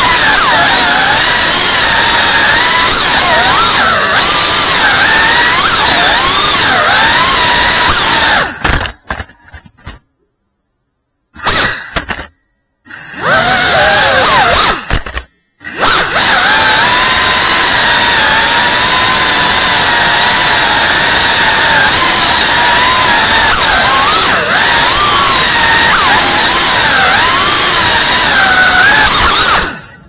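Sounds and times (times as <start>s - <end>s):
drone propellers whining: 0.0s - 9.3s, 11.4s - 30.0s.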